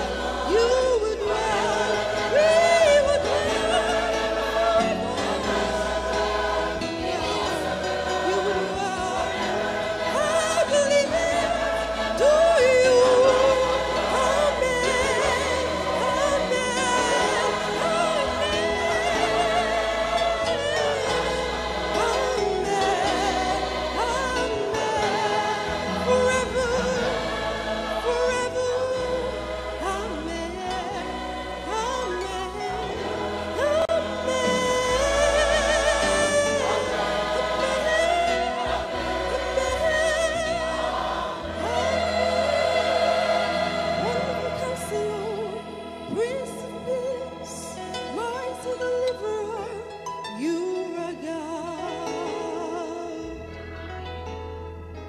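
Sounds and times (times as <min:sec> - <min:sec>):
choir singing a hymn: 0:00.0 - 0:54.2.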